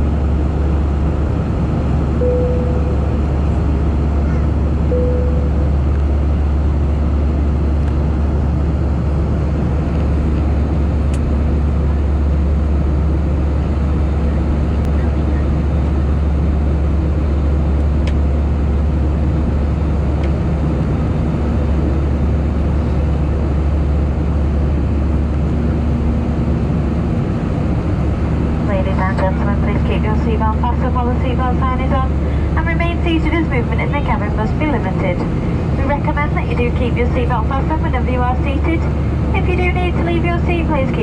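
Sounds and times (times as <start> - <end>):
jet engine drone: 0.0 - 41.0
rushing air in cabin: 0.0 - 41.0.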